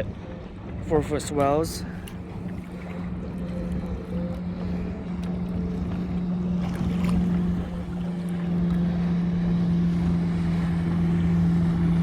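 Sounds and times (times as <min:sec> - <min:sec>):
boat motor droning: 0:00.0 - 0:12.0
wind: 0:00.0 - 0:12.0.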